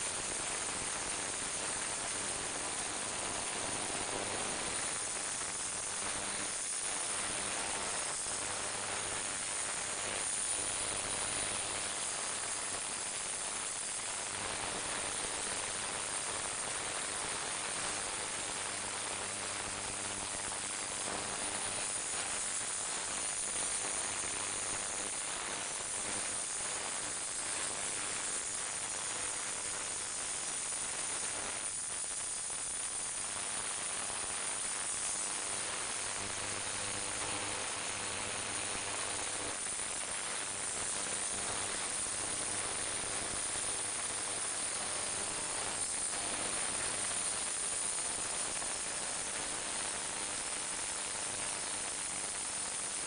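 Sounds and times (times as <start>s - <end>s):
ultrasonic cleaner hissing and buzzing: 0.0s - 53.0s.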